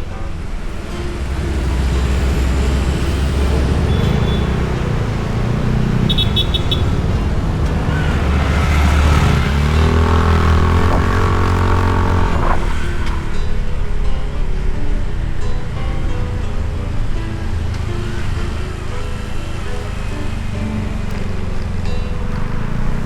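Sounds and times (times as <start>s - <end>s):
motorbike engine and road hum: 0.0s - 23.0s
engine accelerating: 0.6s - 13.8s, 16.4s - 23.0s.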